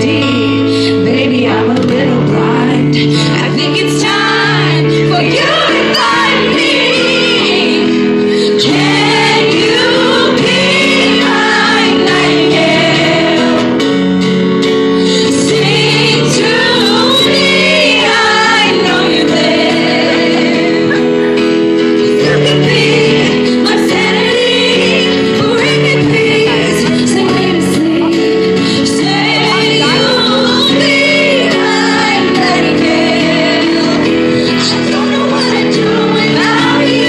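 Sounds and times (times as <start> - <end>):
woman singing pop ballad: 0.0 - 13.9, 15.0 - 37.0
held instrumental chords: 0.0 - 37.0.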